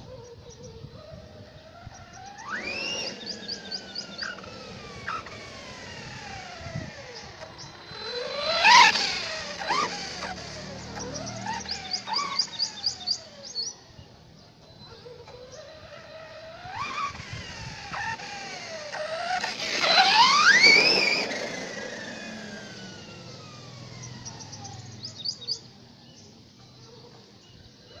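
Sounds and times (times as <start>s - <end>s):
electric motor whining: 0.0s - 14.0s, 15.0s - 25.4s.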